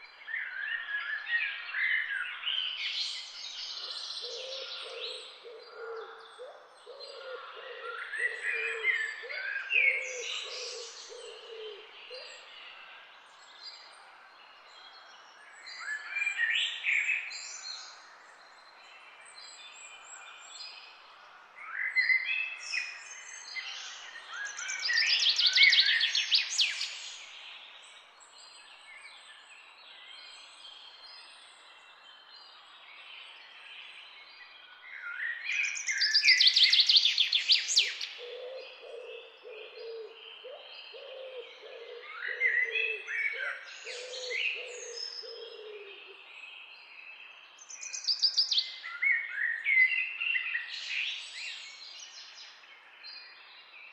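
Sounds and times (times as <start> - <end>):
birds chirping and trilling: 0.0 - 53.9.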